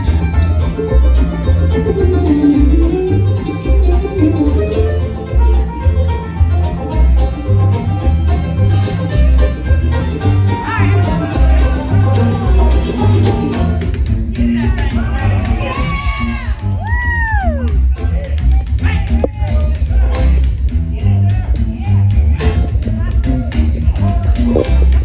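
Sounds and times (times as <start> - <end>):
banjo rolls: 0.0 - 25.0
bluegrass band playing live: 0.0 - 25.0
upright bass line: 0.0 - 25.0.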